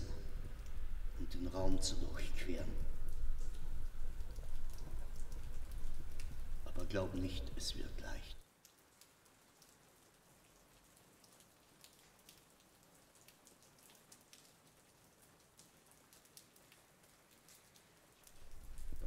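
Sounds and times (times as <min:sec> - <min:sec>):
light hiss: 0:00.0 - 0:19.0
soft irregular ticks: 0:00.0 - 0:19.0.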